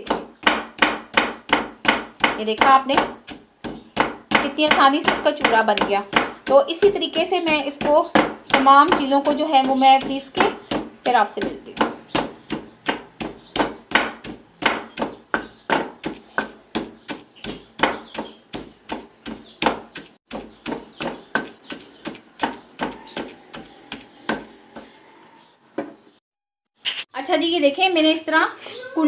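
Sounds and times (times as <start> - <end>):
pestle pounding in mortar: 0.0 - 24.9.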